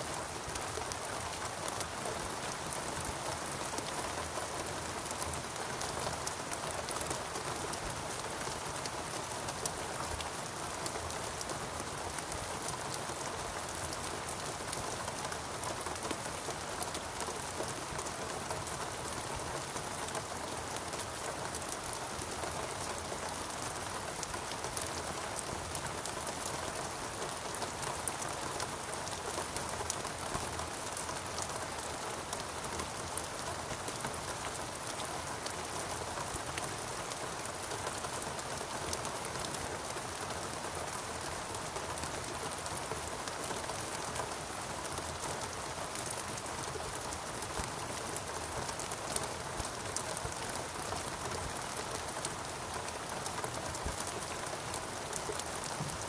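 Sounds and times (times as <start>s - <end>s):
rain on foliage: 0.0s - 56.0s.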